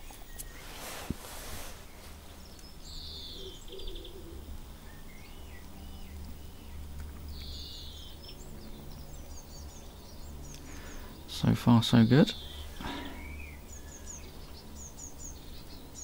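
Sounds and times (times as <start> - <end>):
low steady hum: 0.0 - 16.0
small songbirds singing: 0.0 - 16.0.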